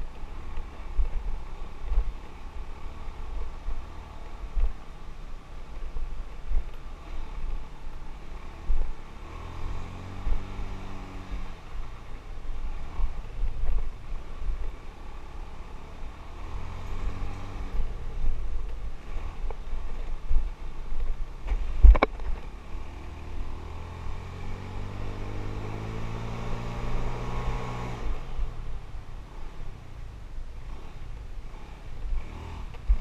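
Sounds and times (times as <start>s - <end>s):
muffled motorbike engine rumble: 0.0s - 33.0s.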